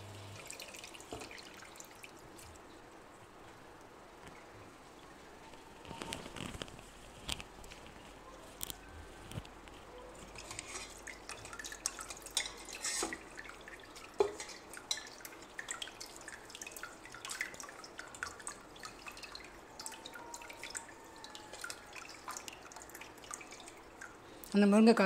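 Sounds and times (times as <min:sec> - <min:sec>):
juice dripping into steel pot: 0:00.1 - 0:02.8, 0:04.2 - 0:24.6.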